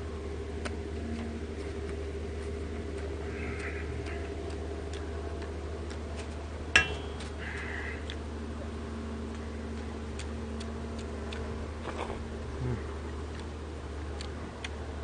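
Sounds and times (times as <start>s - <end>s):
low hum: 0.0s - 15.0s
person chewing and lip-smacking: 0.6s - 15.0s.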